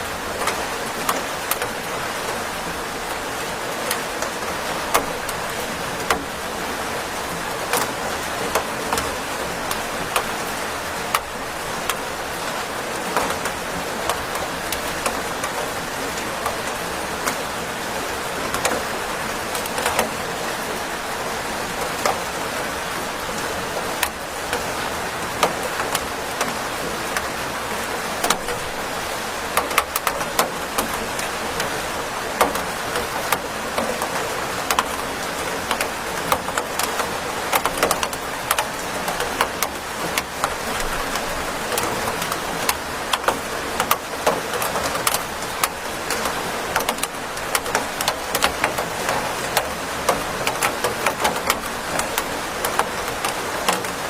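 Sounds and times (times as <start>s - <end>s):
steady rain hiss: 0.0s - 54.0s
raindrops ticking on a surface: 0.1s - 54.0s.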